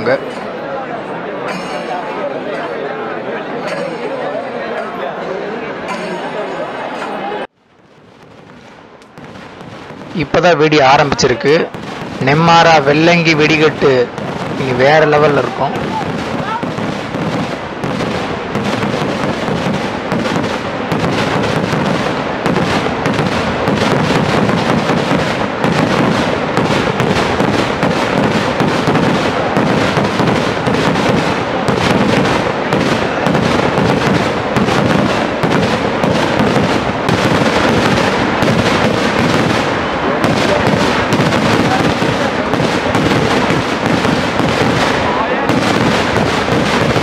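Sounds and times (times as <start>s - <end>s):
fireworks bangs and crackling: 7.5s - 47.0s.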